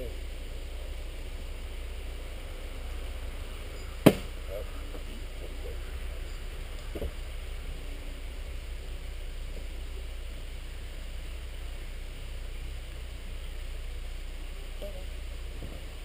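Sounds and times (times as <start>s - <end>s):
faint hiss: 0.0s - 16.0s
steady low rumble: 0.0s - 16.0s.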